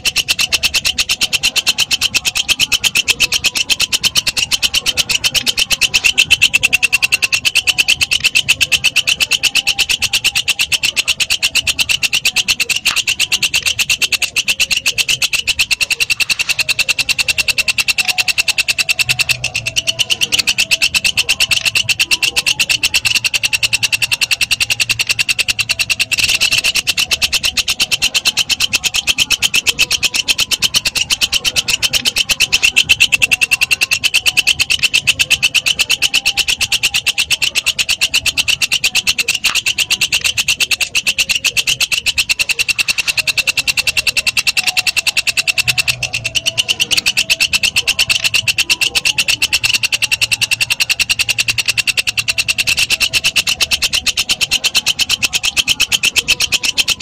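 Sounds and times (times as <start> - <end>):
katydid buzzing trill: 0.0 - 57.0.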